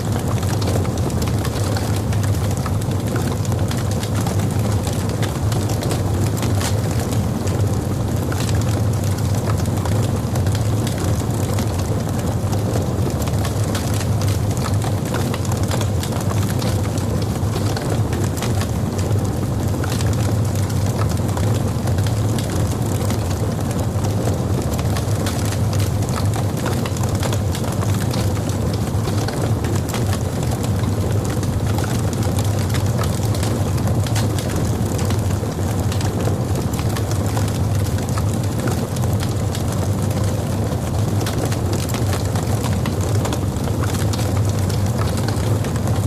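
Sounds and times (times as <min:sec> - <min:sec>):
fire flames rumbling: 0:00.0 - 0:46.0
wood crackling and popping: 0:00.0 - 0:46.0.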